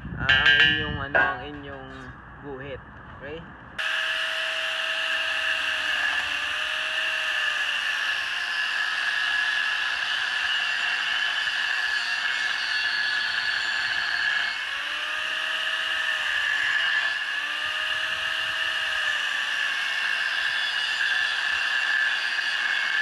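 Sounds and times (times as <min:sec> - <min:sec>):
angle grinder cutting steel: 0:00.3 - 0:02.0, 0:03.8 - 0:23.0.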